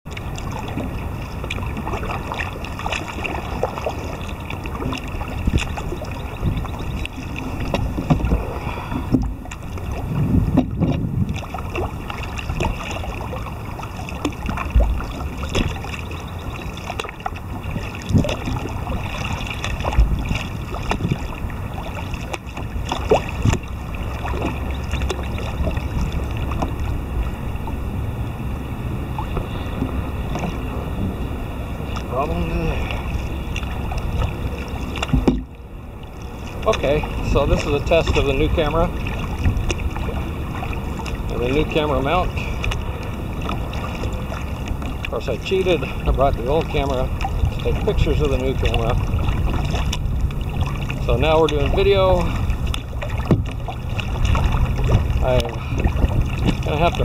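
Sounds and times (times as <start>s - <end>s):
water lapping against kayak hull: 0.0s - 57.0s
wind buffeting microphone: 0.1s - 57.0s.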